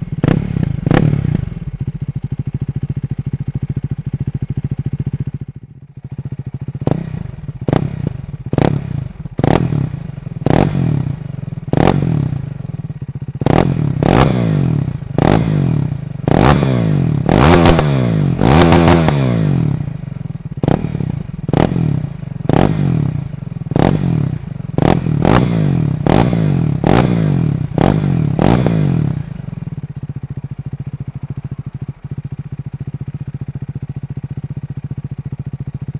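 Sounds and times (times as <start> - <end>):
motorcycle engine idling: 0.0 - 35.9
motorcycle engine revving: 0.0 - 35.9.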